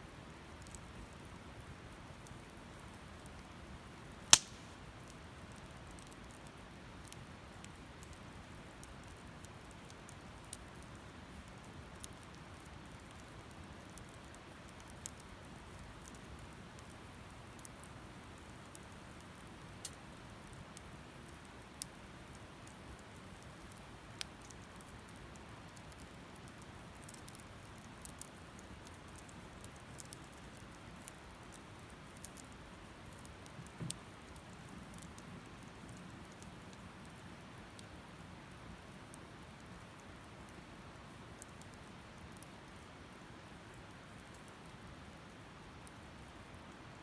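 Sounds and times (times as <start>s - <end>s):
faint fire hiss: 0.0s - 47.0s
wood fire crackling and popping: 0.5s - 46.8s.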